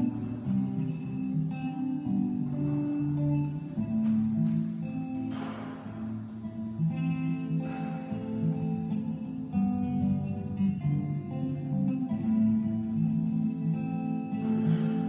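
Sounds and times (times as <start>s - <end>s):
acoustic guitar picked notes: 0.0s - 15.0s
strummed guitar chord: 0.0s - 15.0s.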